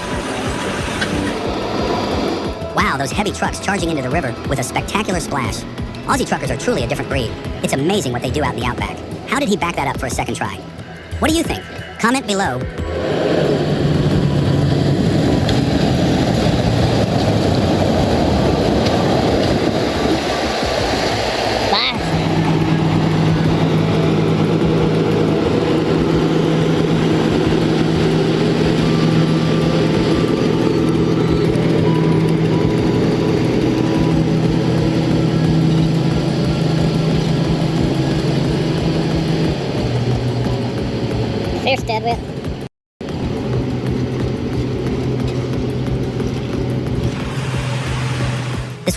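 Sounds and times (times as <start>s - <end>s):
heavy vehicle engine rumbling: 0.0s - 48.9s.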